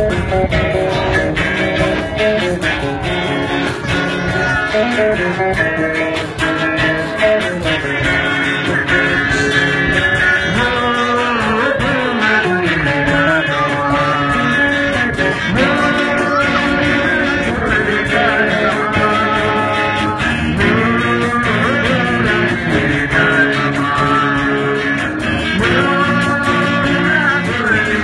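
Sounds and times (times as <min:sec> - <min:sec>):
drum kit beat: 0:00.0 - 0:28.0
guitar playing: 0:00.0 - 0:28.0.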